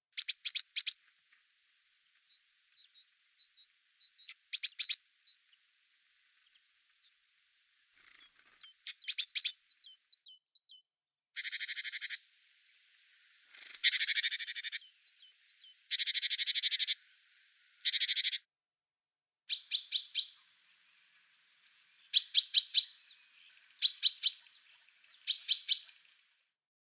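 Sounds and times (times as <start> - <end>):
songbird trills: 0.0 - 18.5, 19.5 - 26.4
faint bird chirps: 0.0 - 26.6.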